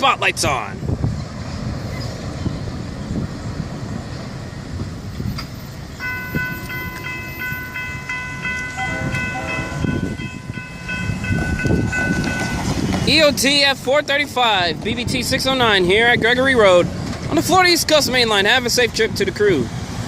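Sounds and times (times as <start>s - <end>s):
train wheels rumbling on rail: 0.7s - 20.0s.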